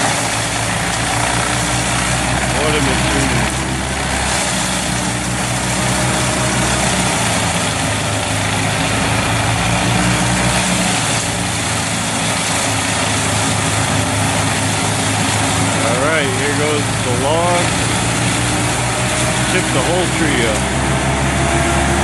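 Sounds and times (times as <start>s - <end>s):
chipper engine hum: 0.0s - 22.0s
wood chipper grinding: 0.0s - 22.0s.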